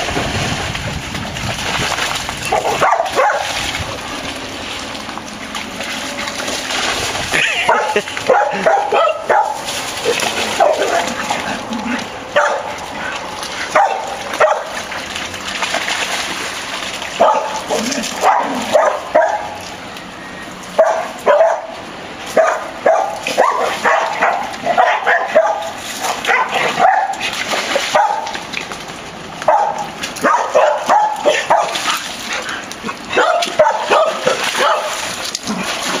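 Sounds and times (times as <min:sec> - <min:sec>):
dogs barking and yipping: 0:02.4 - 0:03.8, 0:05.4 - 0:15.5, 0:16.8 - 0:28.6, 0:29.4 - 0:36.0.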